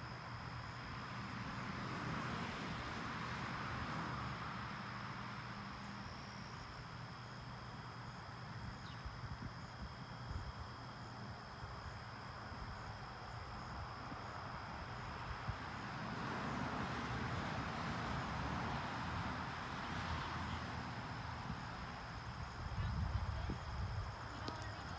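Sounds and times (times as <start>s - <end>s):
insects trilling: 3.3s - 24.9s.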